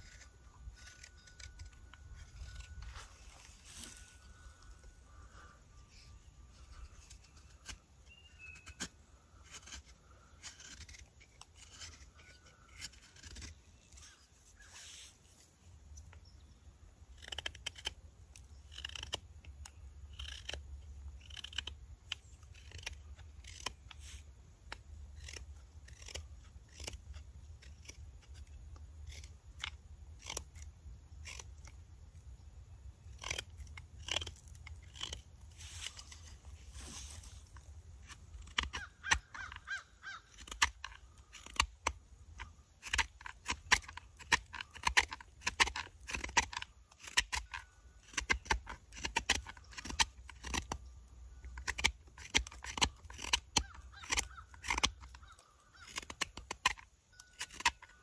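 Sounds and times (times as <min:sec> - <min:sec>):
carving knife cutting wood: 0:00.0 - 0:58.0.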